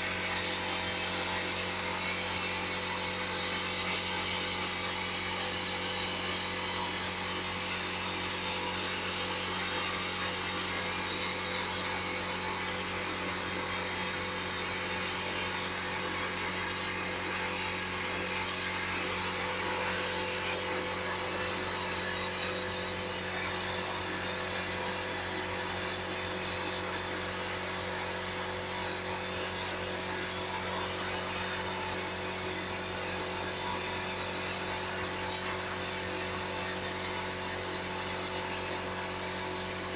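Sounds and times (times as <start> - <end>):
sandblasting gun hissing: 0.0 - 39.9.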